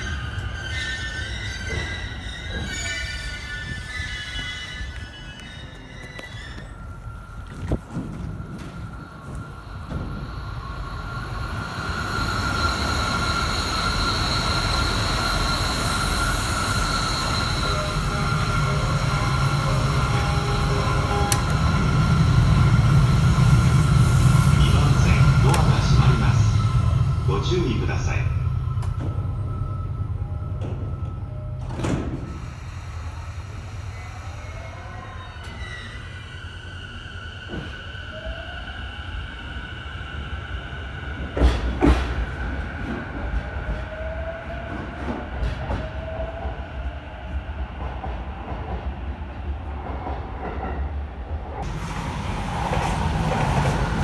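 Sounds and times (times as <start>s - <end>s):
high-speed train rumble: 0.0s - 54.0s.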